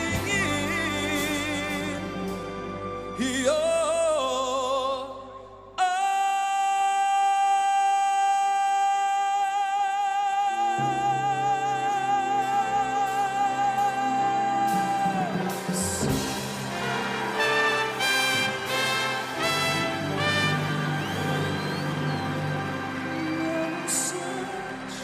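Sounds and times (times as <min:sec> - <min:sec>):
backing music: 0:00.0 - 0:06.1, 0:10.3 - 0:25.0
man singing with vibrato: 0:00.0 - 0:18.0, 0:22.9 - 0:25.0.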